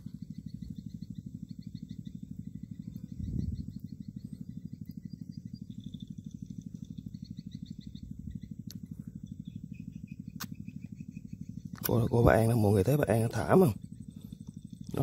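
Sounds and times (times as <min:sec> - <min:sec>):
low throbbing pulses: 0:00.0 - 0:15.0
high chirping calls: 0:00.1 - 0:13.5.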